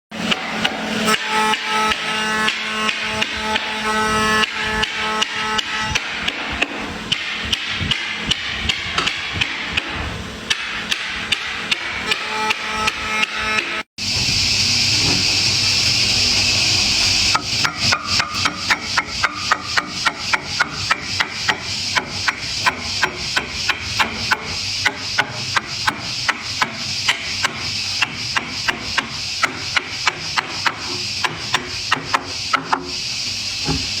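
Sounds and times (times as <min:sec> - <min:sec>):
hammer striking wood: 0:00.3 - 0:13.8, 0:17.3 - 0:32.9.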